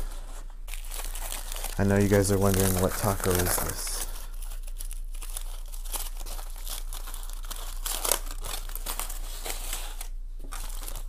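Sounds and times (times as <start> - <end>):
aluminium foil crinkling: 0.6 - 11.0.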